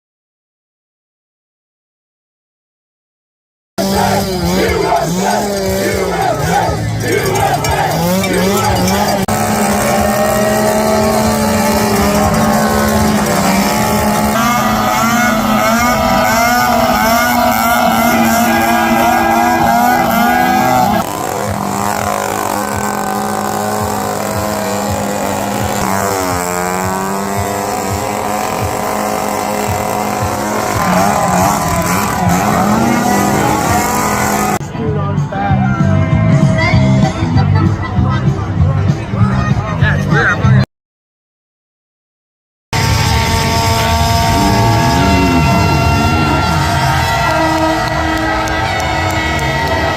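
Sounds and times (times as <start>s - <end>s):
motocross bike engines revving: 3.8s - 40.6s, 42.8s - 49.9s.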